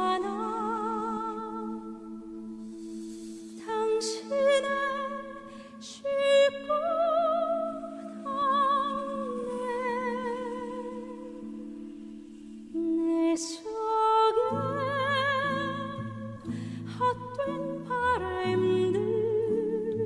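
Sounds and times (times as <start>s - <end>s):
slow melody with vibrato: 0.0s - 20.0s.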